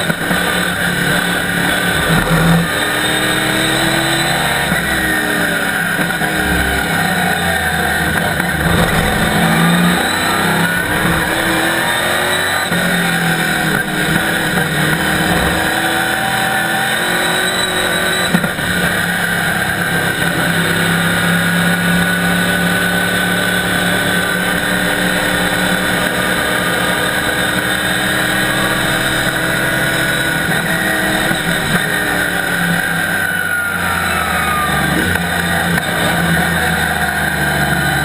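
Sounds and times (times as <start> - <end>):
race car engine running: 0.0 - 38.0.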